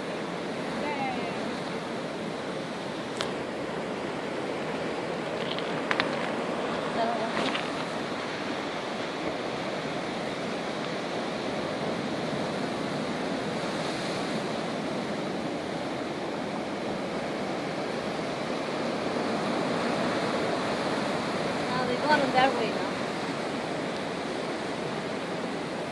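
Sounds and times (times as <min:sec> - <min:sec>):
choppy sea water rushing: 0:00.0 - 0:25.9.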